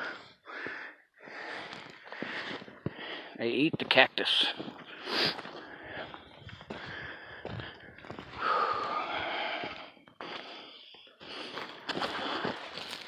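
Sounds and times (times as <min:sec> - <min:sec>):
person breathing heavily: 0:00.0 - 0:03.4, 0:04.5 - 0:13.0.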